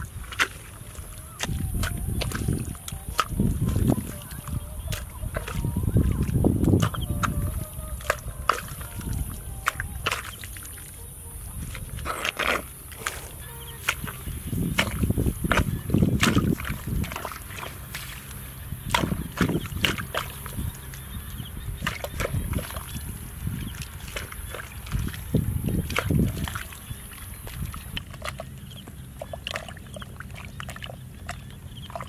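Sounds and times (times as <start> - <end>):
digging tool chopping wet mud: 0.0 - 10.9, 11.6 - 32.0.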